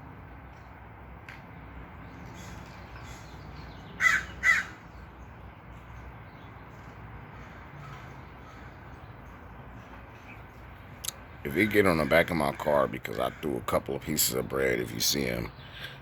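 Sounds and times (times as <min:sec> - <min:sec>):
wild birds calling: 0:02.0 - 0:16.0.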